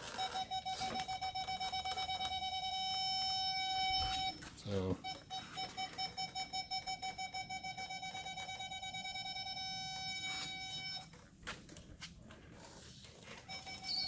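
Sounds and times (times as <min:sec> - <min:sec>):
parking sensor beeping: 0:00.0 - 0:11.2, 0:13.2 - 0:14.0.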